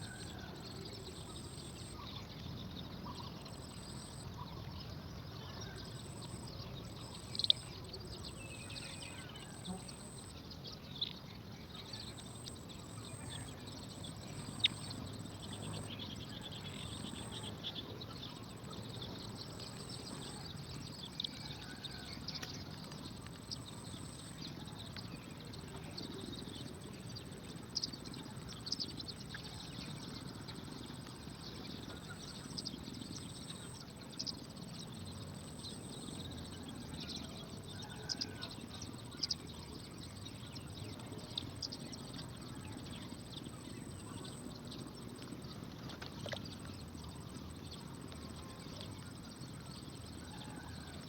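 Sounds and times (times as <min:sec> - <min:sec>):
faint chirps: 0:00.0 - 0:51.0.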